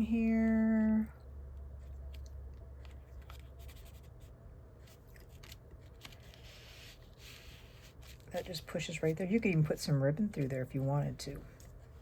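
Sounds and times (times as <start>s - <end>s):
low steady hum: 0.0s - 12.0s
paper rustling: 1.8s - 12.0s.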